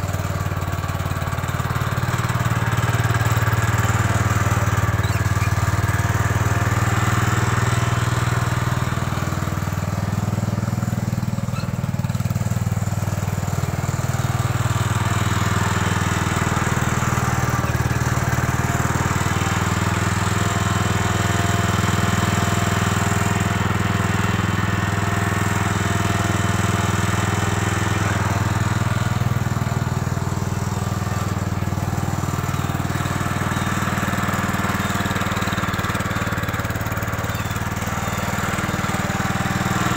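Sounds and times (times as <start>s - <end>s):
plow blade pushing snow: 0.0s - 39.9s
tractor engine running: 0.0s - 39.9s.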